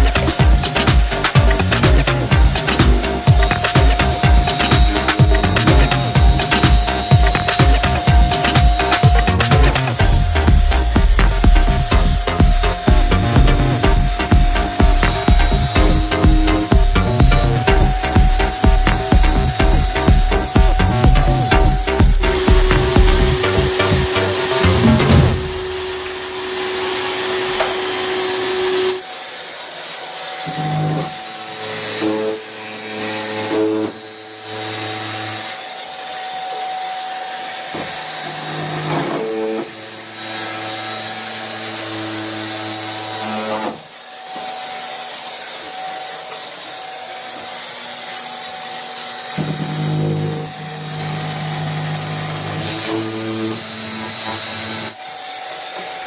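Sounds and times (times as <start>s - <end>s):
electric motor running: 0.0s - 38.9s, 45.8s - 55.4s.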